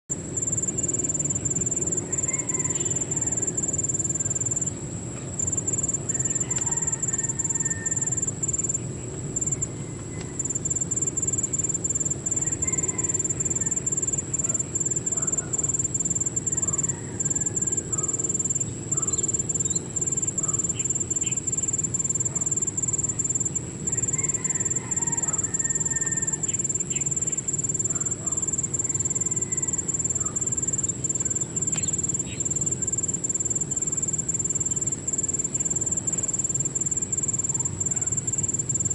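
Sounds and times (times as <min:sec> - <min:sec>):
insect chorus trilling: 0:00.1 - 0:38.9.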